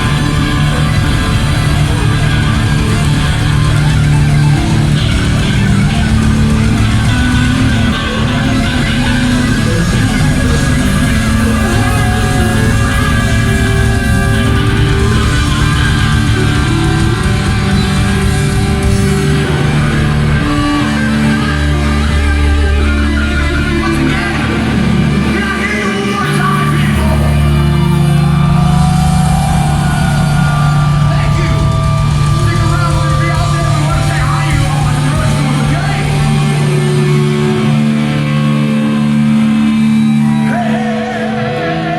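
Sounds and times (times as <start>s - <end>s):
distorted electric guitar: 0.0s - 41.9s
heavy metal band playing live: 0.0s - 41.9s
sung vocals: 0.0s - 41.9s.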